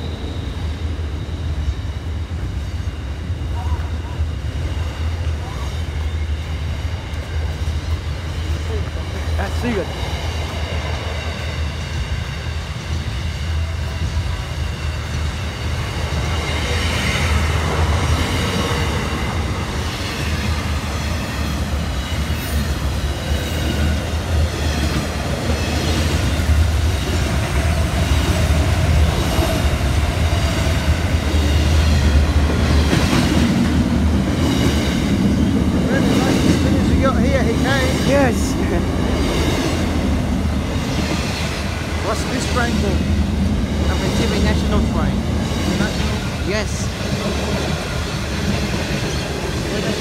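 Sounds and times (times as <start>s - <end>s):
train wheels rumbling on rail: 0.0s - 50.0s.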